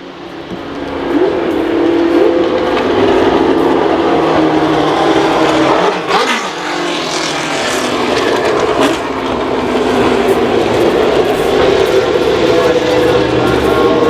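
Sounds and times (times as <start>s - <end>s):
racing car engines revving: 0.0s - 14.0s
racing car passing by: 0.0s - 14.0s.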